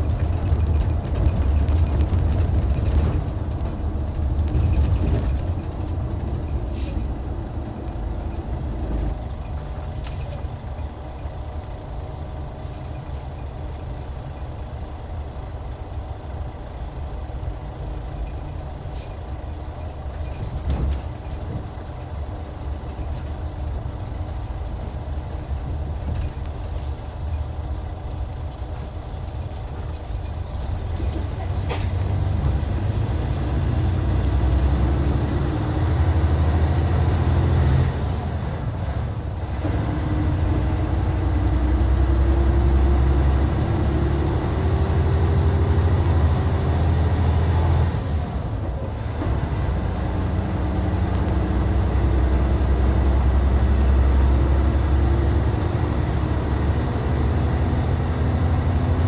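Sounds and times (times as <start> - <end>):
diesel coach engine running: 0.0 - 59.0.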